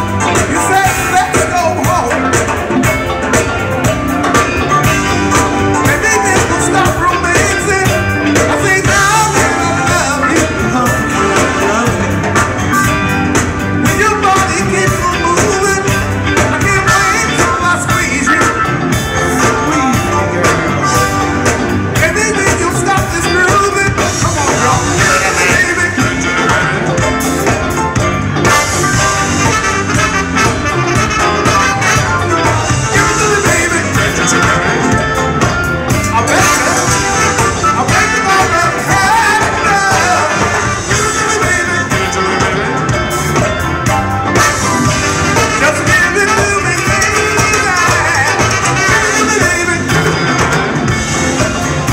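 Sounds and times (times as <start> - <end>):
funk band playing with singing: 0.0 - 51.9.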